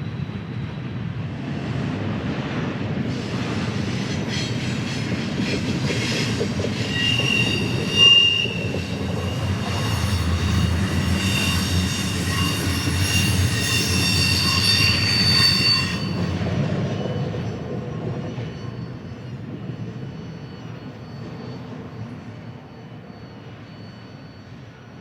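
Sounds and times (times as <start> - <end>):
train rumble: 0.0 - 24.9
train wheels squealing: 0.0 - 25.0.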